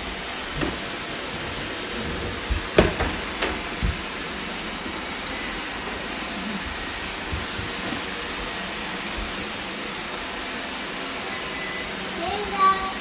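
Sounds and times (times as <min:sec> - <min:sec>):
robot vacuums whirring: 0:00.0 - 0:13.0.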